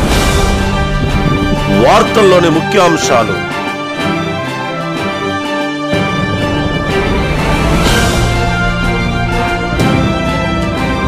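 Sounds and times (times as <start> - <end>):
news theme music with held chords: 0.0 - 11.0.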